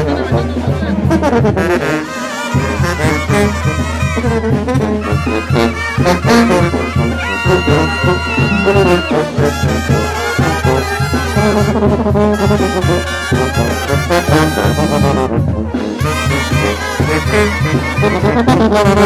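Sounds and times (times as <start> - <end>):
brass band playing: 0.0 - 19.0
percussive beat: 2.5 - 19.0.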